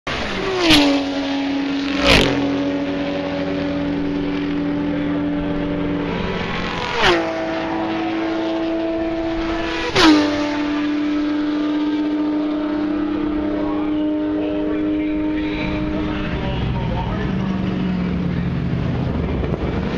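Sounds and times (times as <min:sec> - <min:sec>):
race cars passing by: 0:00.1 - 0:19.9
steady engine drone: 0:00.1 - 0:19.9.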